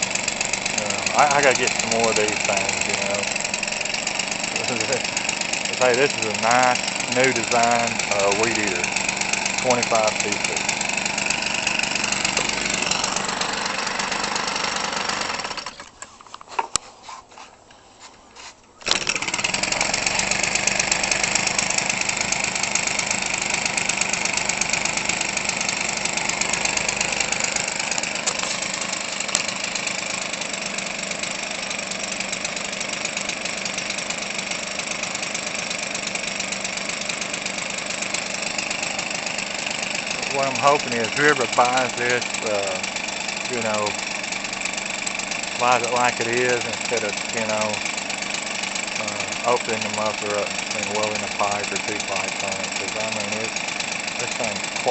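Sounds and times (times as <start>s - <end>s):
small two-stroke engine running: 0.0s - 16.0s, 18.8s - 54.9s.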